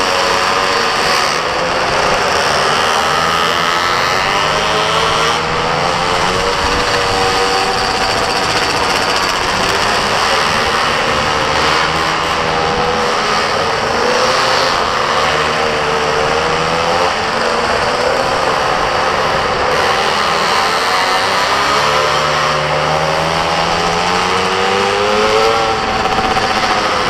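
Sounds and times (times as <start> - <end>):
small engine revving: 0.0 - 27.0
steady rushing noise: 0.0 - 27.0.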